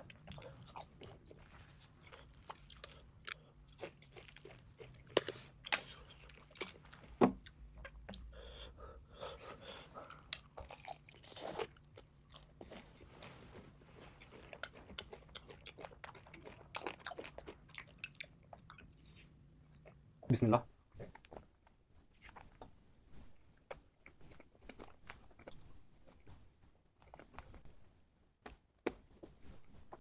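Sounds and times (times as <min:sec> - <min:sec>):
person chewing crunchy food: 0:00.0 - 0:08.3, 0:09.6 - 0:20.0, 0:22.2 - 0:27.8.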